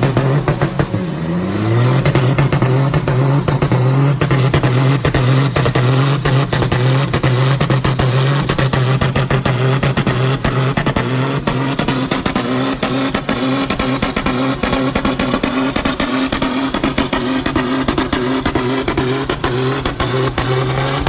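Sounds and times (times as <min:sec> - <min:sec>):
diesel engine at high revs: 0:00.0 - 0:21.0.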